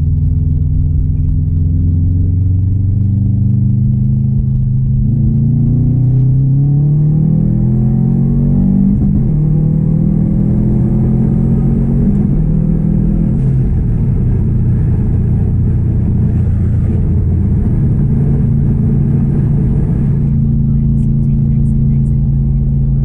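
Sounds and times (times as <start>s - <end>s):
car engine accelerating: 0.0s - 23.0s
low road rumble: 0.0s - 23.0s.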